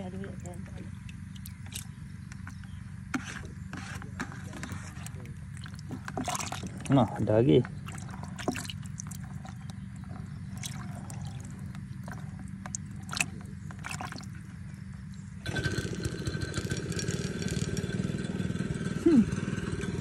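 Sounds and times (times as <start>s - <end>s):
low engine hum: 0.0s - 20.0s
water splashing in a bucket: 0.3s - 17.8s.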